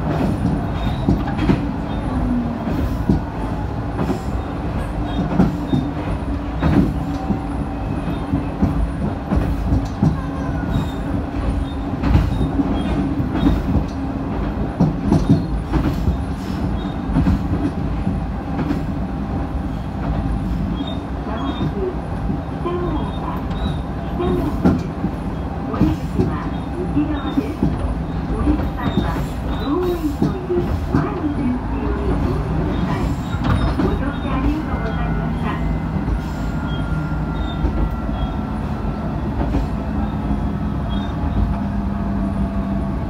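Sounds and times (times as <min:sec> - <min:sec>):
diesel railcar engine drone: 0:00.0 - 0:43.0.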